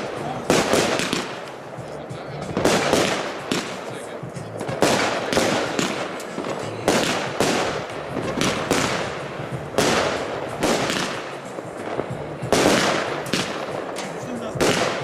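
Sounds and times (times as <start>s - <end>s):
firework bangs: 0.0s - 15.0s
firework hiss: 0.0s - 15.0s.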